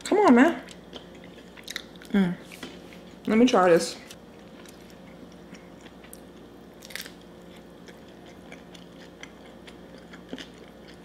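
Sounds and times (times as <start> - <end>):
person chewing food: 0.6 - 3.3, 4.3 - 11.0.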